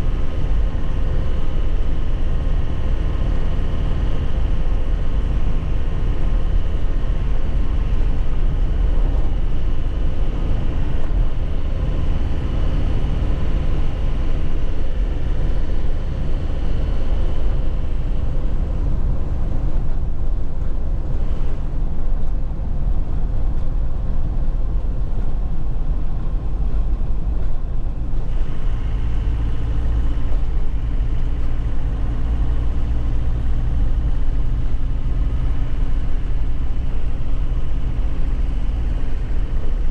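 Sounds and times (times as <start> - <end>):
diesel truck engine rumble: 0.0 - 39.9
road noise: 0.0 - 39.9.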